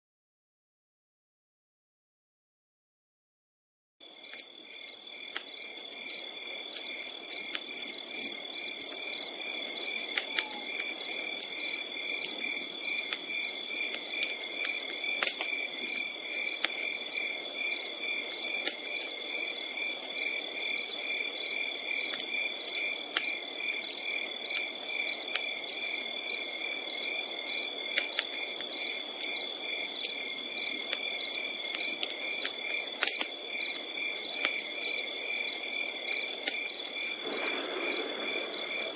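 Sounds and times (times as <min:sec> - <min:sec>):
campfire crackling: 0:04.0 - 0:38.9
crickets chirping: 0:04.0 - 0:38.9.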